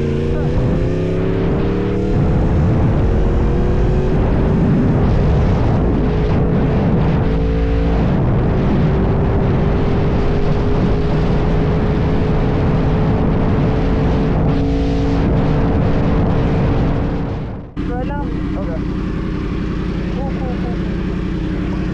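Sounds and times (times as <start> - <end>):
wind noise rushing: 0.0 - 17.8
motorcycle engine running: 0.0 - 21.9.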